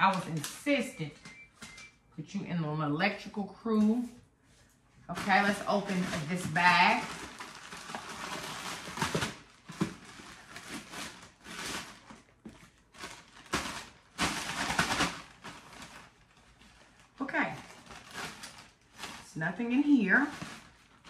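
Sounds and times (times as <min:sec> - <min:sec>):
plastic bag crinkling: 0:00.0 - 0:01.8, 0:05.1 - 0:21.0.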